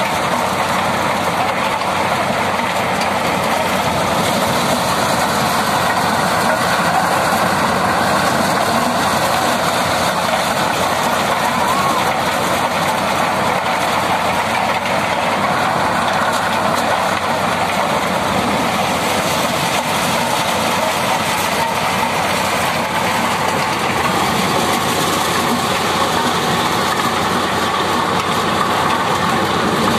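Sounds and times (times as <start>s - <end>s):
corn pouring from chute: 0.0s - 29.9s
tractor-powered thresher running: 0.0s - 29.9s.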